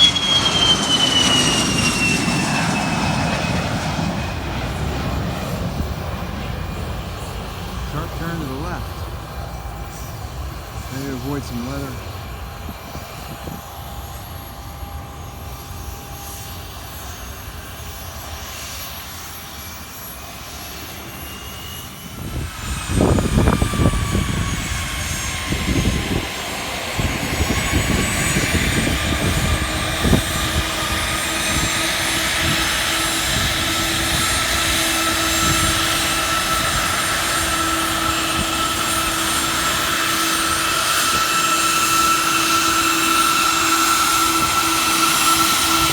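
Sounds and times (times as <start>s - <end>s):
jet engines whining and rumbling: 0.0s - 45.9s.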